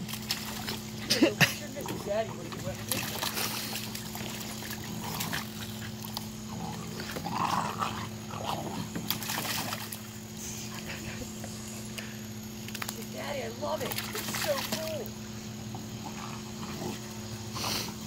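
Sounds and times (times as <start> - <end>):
water sloshing: 0.0 - 10.3, 12.6 - 17.5
puppies splashing in water: 0.0 - 18.0.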